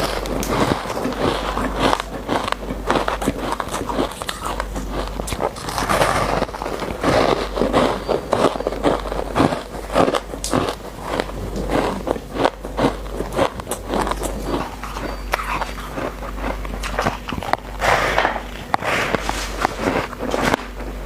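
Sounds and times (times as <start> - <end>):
chewing shaved ice: 0.0 - 21.0.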